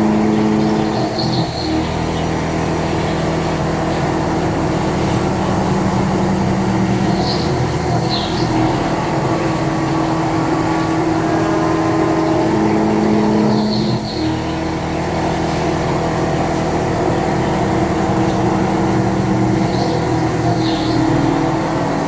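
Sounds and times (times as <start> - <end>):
milling machine humming: 0.0 - 22.0.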